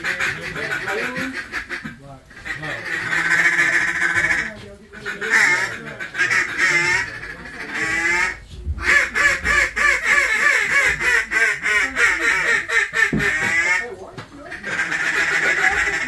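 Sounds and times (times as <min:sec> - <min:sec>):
duck call quacks: 0:00.0 - 0:13.9, 0:14.5 - 0:16.0.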